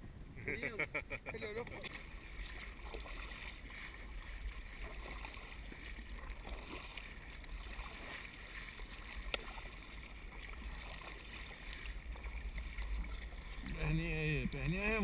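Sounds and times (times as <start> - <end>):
low steady rumble: 0.0 - 15.0
water sloshing around kayak: 1.4 - 15.0.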